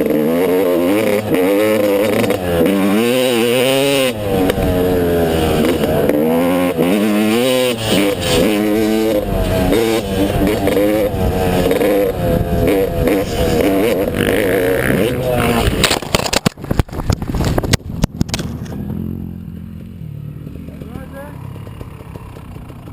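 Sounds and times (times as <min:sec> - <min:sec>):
dirt bike engine revving: 0:00.0 - 0:16.6, 0:17.2 - 0:22.9.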